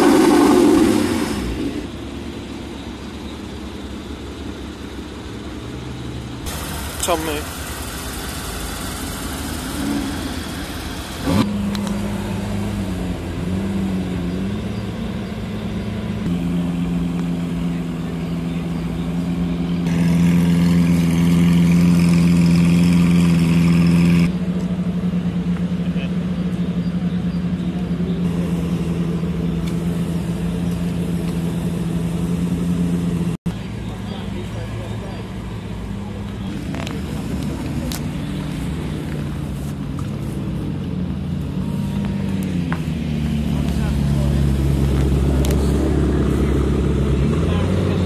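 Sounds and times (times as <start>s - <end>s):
engine revving: 0.0s - 2.6s, 5.6s - 48.0s
sports car engines pulling away: 0.0s - 48.0s.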